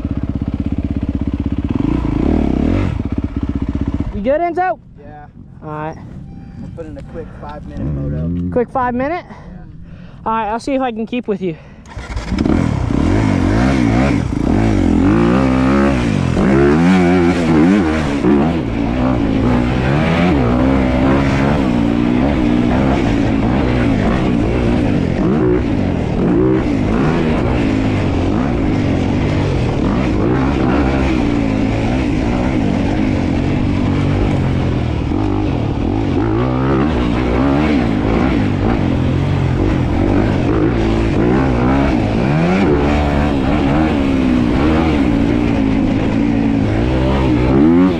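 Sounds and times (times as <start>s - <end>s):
dirt bike engine revving: 0.0s - 4.7s, 7.7s - 9.1s, 11.8s - 47.9s.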